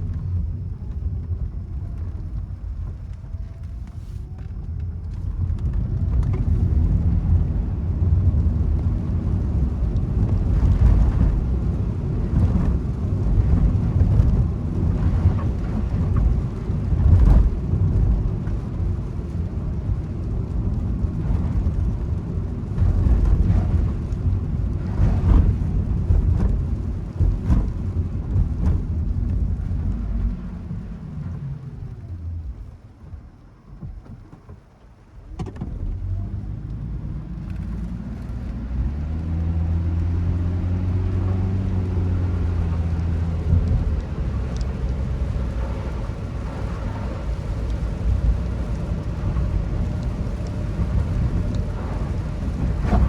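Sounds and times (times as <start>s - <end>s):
road and tyre noise: 0.0s - 53.0s.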